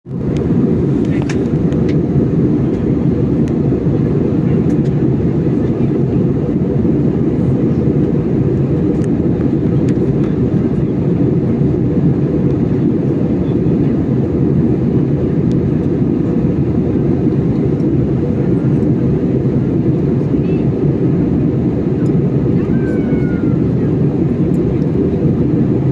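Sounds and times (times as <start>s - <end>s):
airliner engine roar in cabin: 0.1s - 25.9s.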